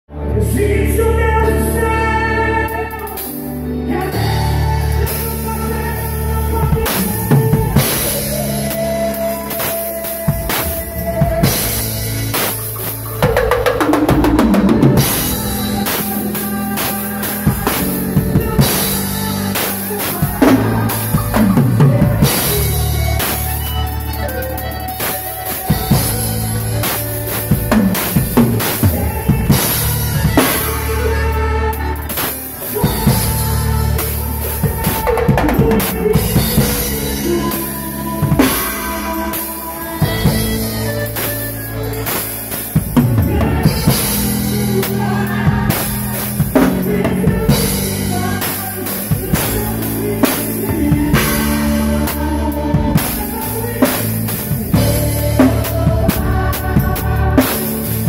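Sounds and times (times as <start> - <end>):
keyboard: 0.1 - 58.0
drum kit beat: 2.9 - 58.0.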